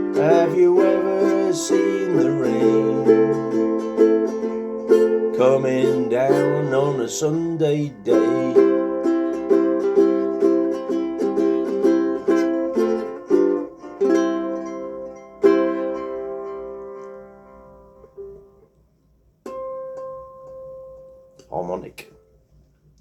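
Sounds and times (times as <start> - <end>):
ukulele strumming chords: 0.0 - 22.4.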